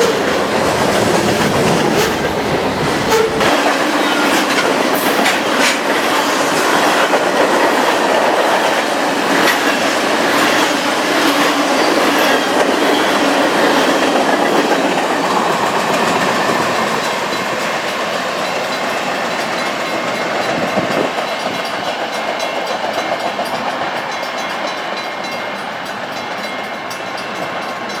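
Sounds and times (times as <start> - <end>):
train wheels clattering on rail joints: 0.0 - 28.0.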